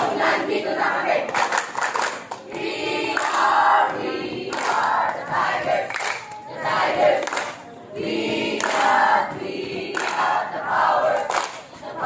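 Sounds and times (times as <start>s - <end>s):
children singing and chanting: 0.0s - 1.5s, 2.3s - 12.0s.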